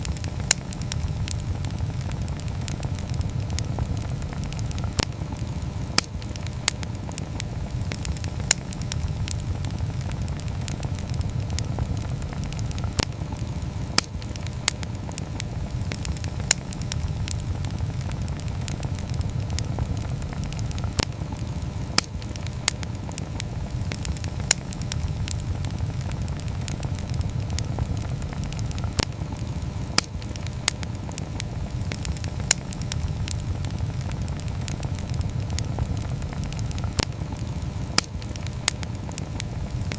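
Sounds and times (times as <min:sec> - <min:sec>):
campfire crackling and popping: 0:00.0 - 0:39.9
fire low rumble: 0:00.0 - 0:39.9.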